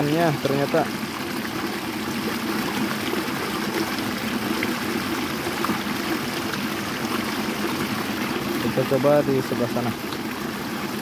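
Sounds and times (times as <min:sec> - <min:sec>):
river water flowing over rocks: 0:00.0 - 0:11.0.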